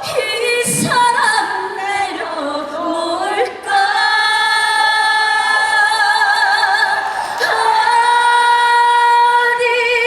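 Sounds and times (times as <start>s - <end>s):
woman singing through a pa: 0.0s - 10.0s.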